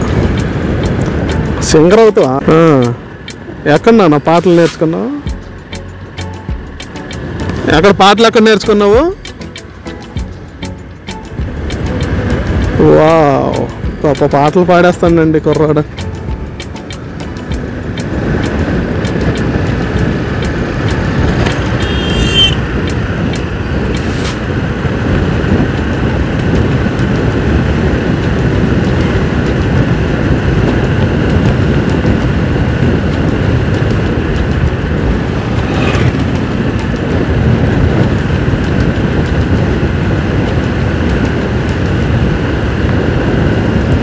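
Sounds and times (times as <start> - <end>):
motorcycle engine cruising: 0.0 - 44.0
road and wind noise: 0.0 - 44.0.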